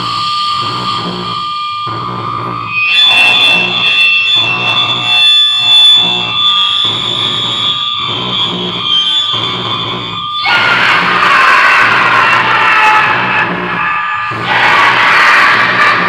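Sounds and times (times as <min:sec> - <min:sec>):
distorted electronic noise: 0:00.0 - 0:16.0
low pulsing layer: 0:00.0 - 0:16.0
piercing feedback squeals: 0:00.0 - 0:16.0.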